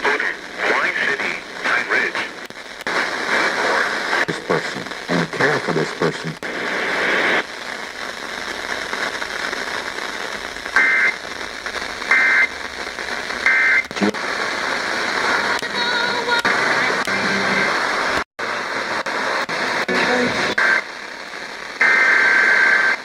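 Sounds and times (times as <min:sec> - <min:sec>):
radio static and crackle: 0:00.0 - 0:23.0.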